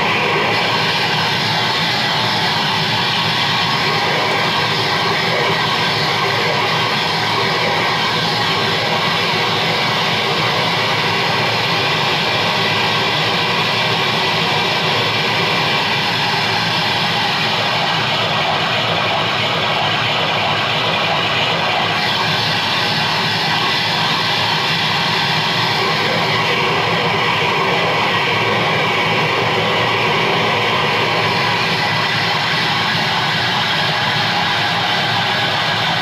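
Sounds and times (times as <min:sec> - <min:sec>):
keyboard noise drone: 0:00.0 - 0:36.0.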